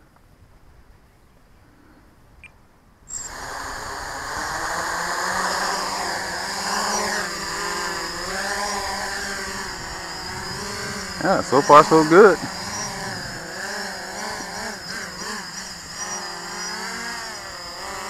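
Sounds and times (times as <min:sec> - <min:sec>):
drone motors buzzing whine: 0:03.1 - 0:18.0.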